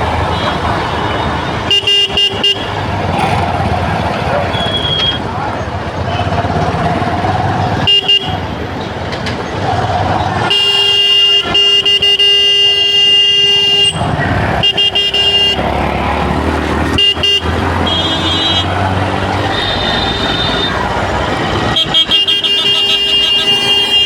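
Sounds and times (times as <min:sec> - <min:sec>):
vehicle horns honking: 0:00.0 - 0:08.8, 0:10.4 - 0:24.0
engine and road noise: 0:00.0 - 0:24.0.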